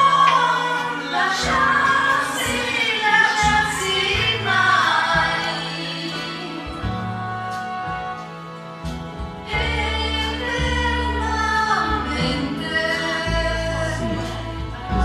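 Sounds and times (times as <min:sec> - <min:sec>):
woman singing into a microphone: 0:00.0 - 0:07.0, 0:09.5 - 0:15.0
held bass notes: 0:00.0 - 0:15.0.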